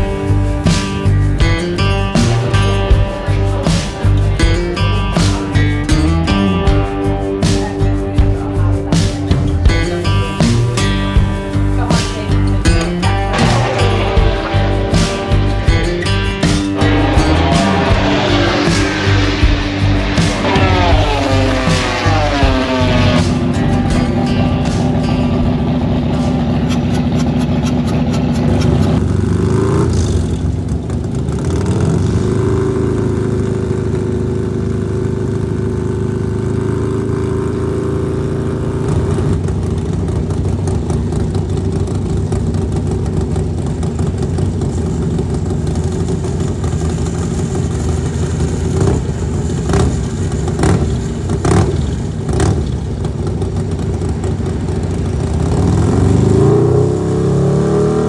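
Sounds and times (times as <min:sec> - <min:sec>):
racing motorcycle engines revving: 0:00.0 - 0:58.0.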